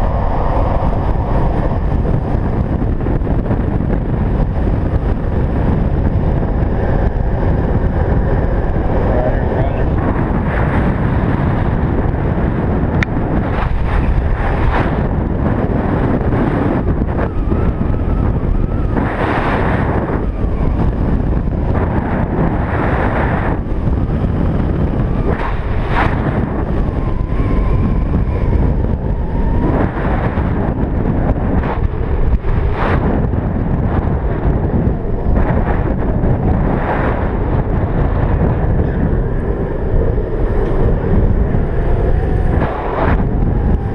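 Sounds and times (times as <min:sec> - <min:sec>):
wheels rolling on asphalt: 0:00.0 - 0:43.9
wind buffeting microphone: 0:00.0 - 0:43.9.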